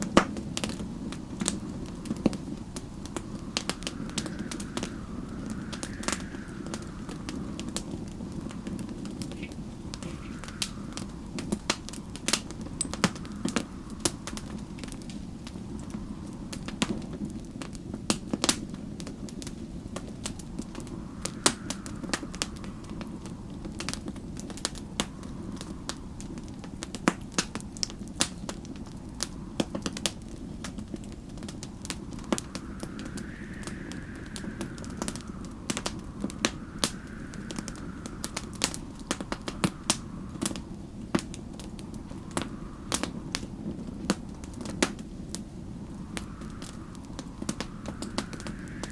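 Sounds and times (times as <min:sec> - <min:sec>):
howling wind: 0:00.0 - 0:48.9
wood fire crackling: 0:00.0 - 0:48.9.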